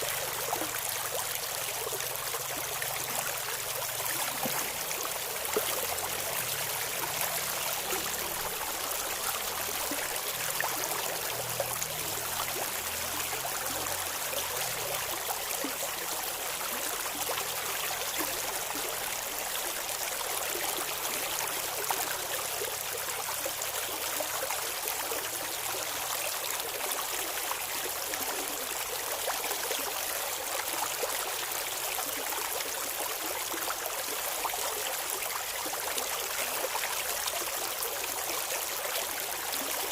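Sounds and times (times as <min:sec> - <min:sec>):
river water babbling over rocks: 0:00.0 - 0:39.9.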